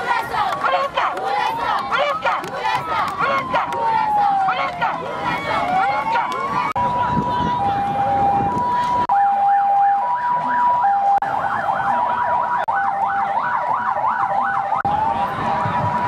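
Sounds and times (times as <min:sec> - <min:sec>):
yelping siren: 0:00.6 - 0:16.0
two-tone siren: 0:00.8 - 0:16.0.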